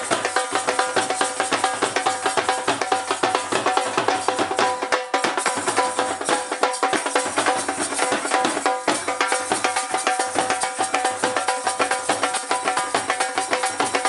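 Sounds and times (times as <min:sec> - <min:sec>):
dhol drums beating fast rhythm: 0:00.0 - 0:14.0.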